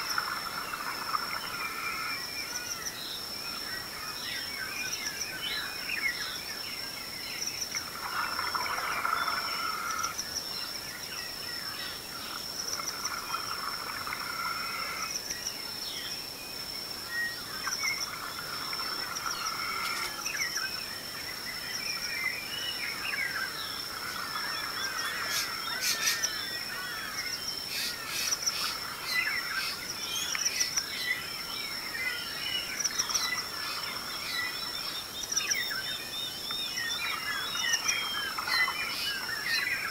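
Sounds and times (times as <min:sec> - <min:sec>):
birds calling and singing: 0:00.0 - 0:39.9
high-pitched insect trill: 0:00.0 - 0:39.9.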